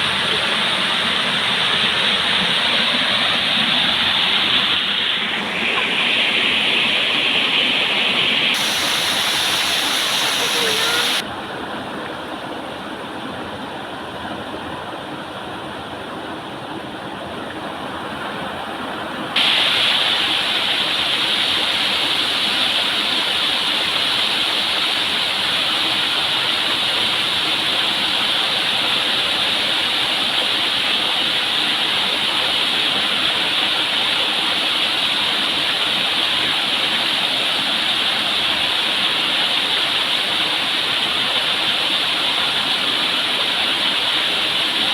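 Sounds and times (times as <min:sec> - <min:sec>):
waterfall rushing: 0:00.0 - 0:11.3, 0:18.8 - 0:44.9.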